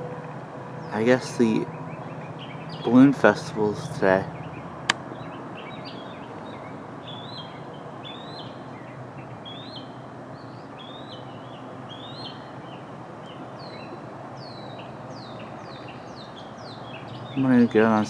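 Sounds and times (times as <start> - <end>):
outdoor background hiss: 0.2 - 18.0
songbirds chirping: 0.8 - 18.0.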